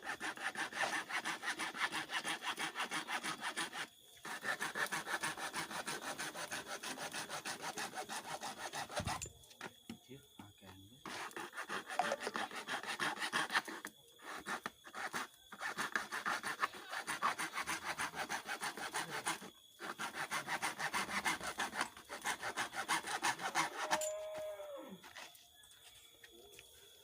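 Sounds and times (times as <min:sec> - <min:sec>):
saw cutting plastic pipe: 0:00.0 - 0:09.3, 0:11.0 - 0:24.0.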